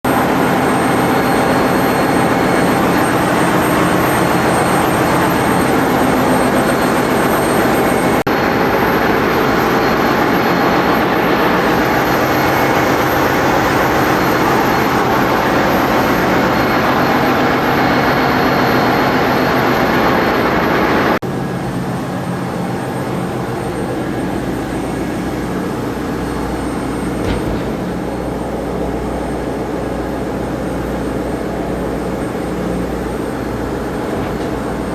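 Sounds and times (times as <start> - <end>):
engine room machinery drone: 0.0 - 34.9.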